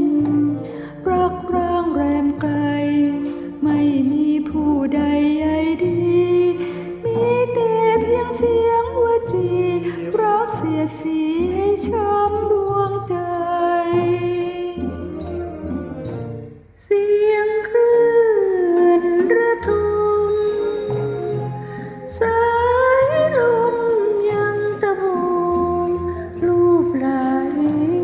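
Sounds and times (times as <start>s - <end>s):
pop ballad backing music: 0.0s - 16.6s, 17.9s - 28.0s.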